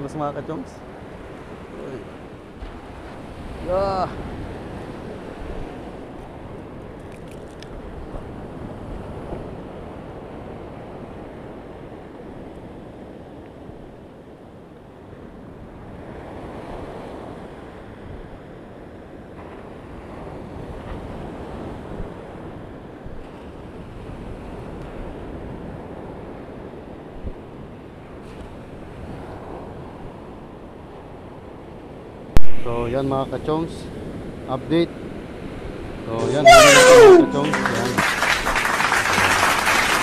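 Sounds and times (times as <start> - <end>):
surf washing up beach: 0.0 - 40.0.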